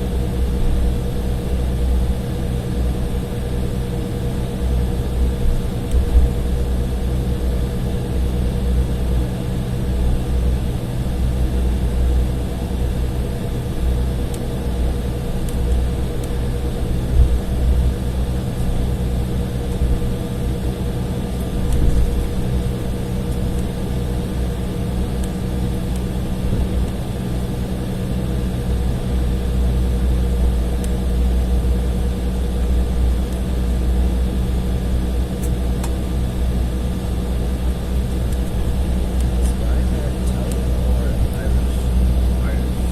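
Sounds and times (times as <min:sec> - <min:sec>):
jet engines humming: 0:00.0 - 0:42.9.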